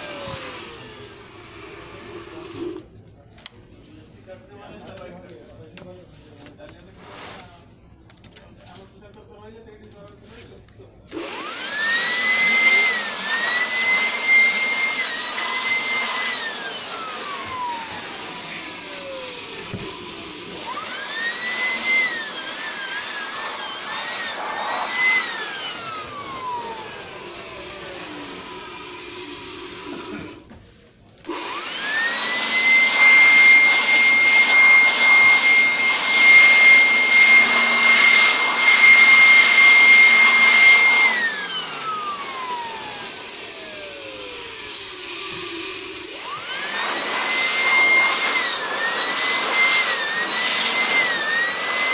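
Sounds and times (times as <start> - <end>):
vacuum cleaner motor whining: 0.0 - 2.9, 11.1 - 51.9.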